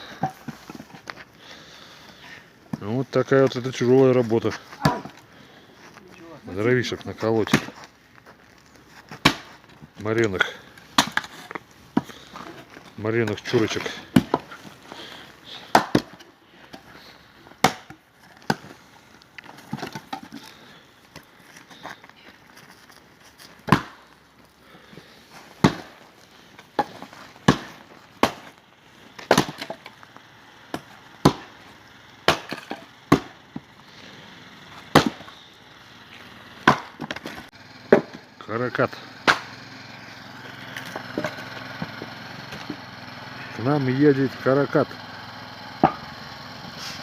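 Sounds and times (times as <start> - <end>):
axe splitting firewood: 0.0 - 45.0, 45.8 - 47.0.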